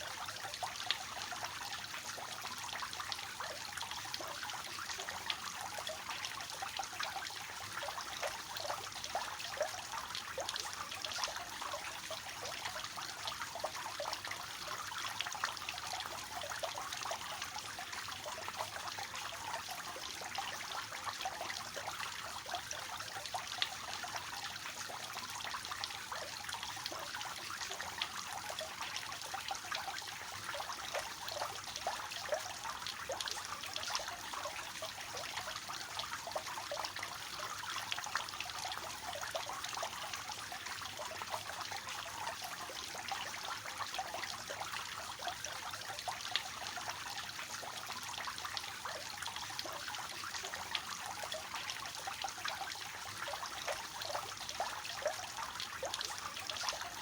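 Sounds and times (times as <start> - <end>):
fountain water splashing into basins: 0.0 - 57.0.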